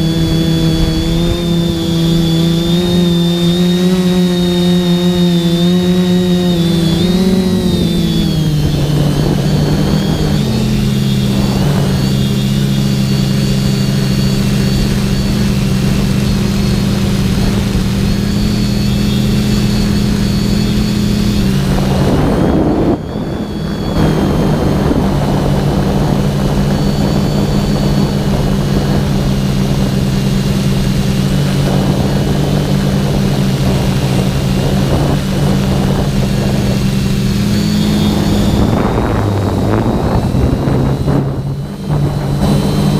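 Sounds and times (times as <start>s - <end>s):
quadcopter motors buzzing: 0.0s - 42.9s
wind rush: 0.0s - 42.9s.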